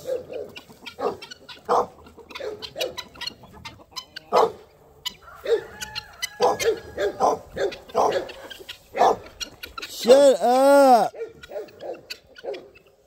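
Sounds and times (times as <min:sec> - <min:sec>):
chickens clucking and squawking: 0:00.0 - 0:13.0.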